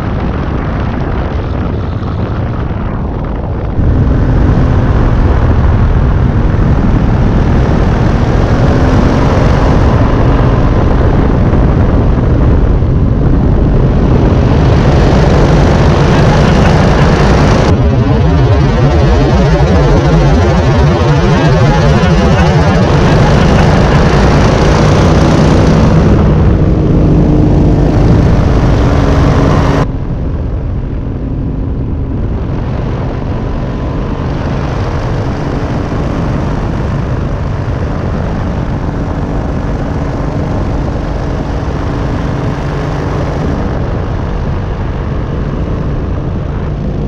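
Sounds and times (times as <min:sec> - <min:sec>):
engine and propeller droning: 0:00.0 - 0:47.0
wind noise: 0:00.0 - 0:47.0.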